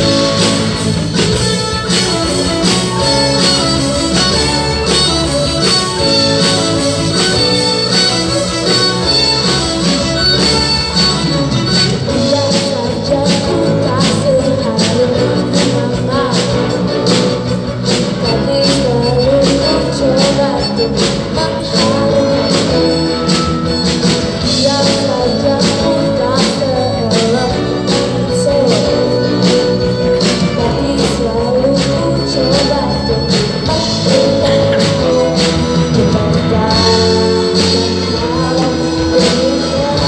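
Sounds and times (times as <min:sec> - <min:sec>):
upbeat music with singing: 0:00.0 - 0:40.0.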